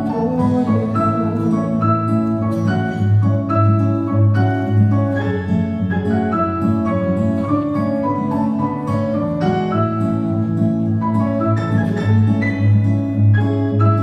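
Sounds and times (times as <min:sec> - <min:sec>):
keyboard chords and melody: 0:00.0 - 0:14.0.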